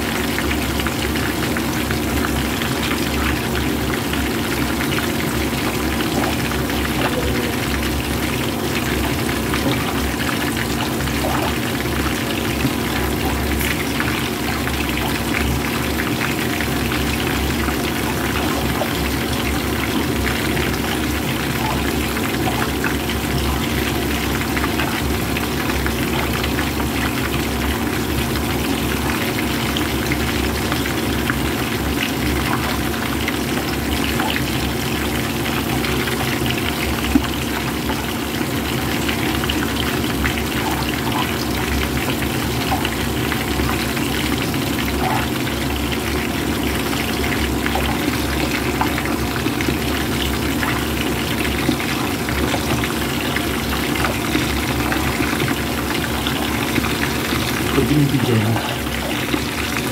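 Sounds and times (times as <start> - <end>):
oil sizzling around frying fish: 0.0 - 58.2, 58.8 - 59.9.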